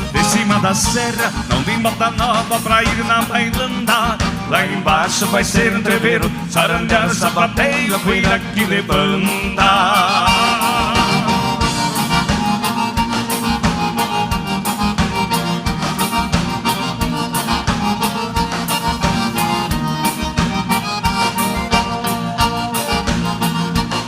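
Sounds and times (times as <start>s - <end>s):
accordion melody: 0.0s - 24.0s
bass: 0.0s - 24.0s
quick drum beat: 0.0s - 24.0s.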